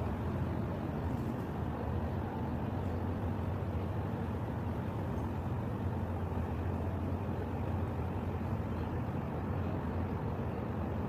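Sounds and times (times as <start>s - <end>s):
constant low hum: 0.0s - 11.0s
harbour noise: 0.0s - 11.0s.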